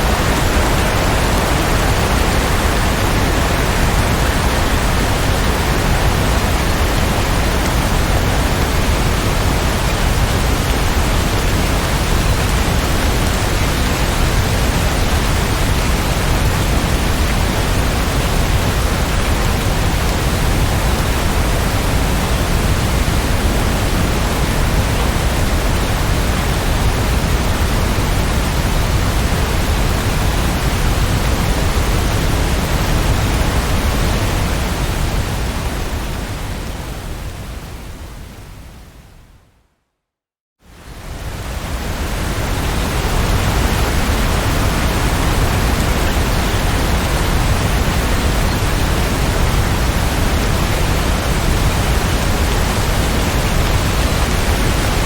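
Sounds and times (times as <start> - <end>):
heavy rain: 0.0 - 39.1, 40.7 - 55.0.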